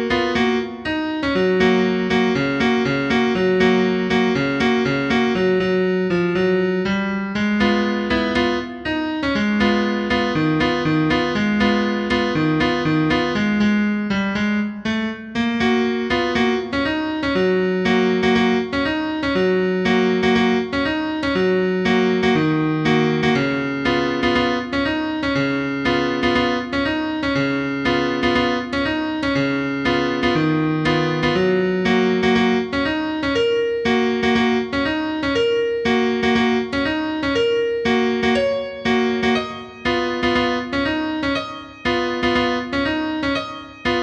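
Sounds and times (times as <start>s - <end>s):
calm piano music: 0.0s - 44.0s.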